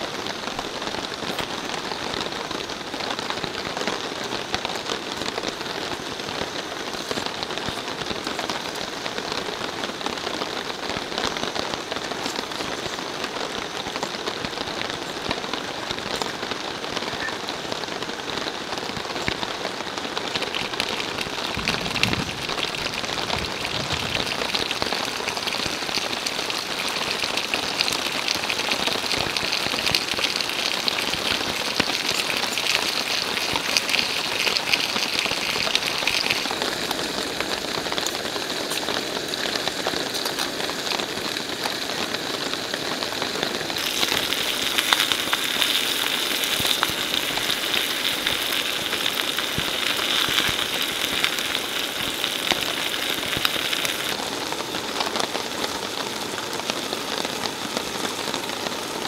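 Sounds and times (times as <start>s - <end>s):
rain falling on a tarp: 0.0s - 59.0s.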